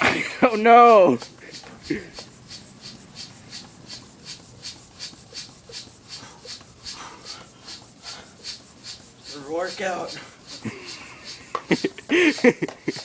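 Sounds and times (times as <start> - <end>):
bicycle pump hissing: 0.0 - 13.0.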